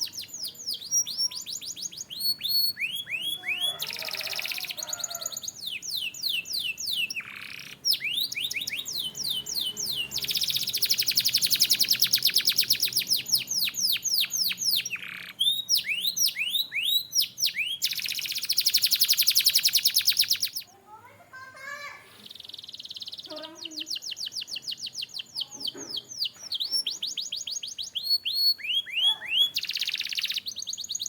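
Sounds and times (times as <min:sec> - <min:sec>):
canary singing: 0:00.0 - 0:31.0.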